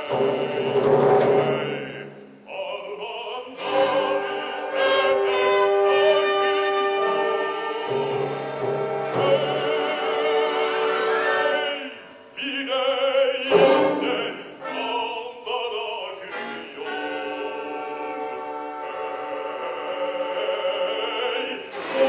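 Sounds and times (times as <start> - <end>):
person singing long held notes: 0.0 - 8.4, 9.0 - 22.0
background music: 0.0 - 22.0.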